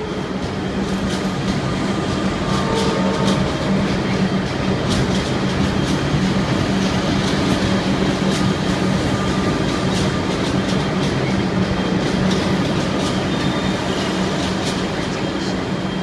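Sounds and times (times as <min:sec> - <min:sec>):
diesel locomotive running: 0:00.0 - 0:16.0.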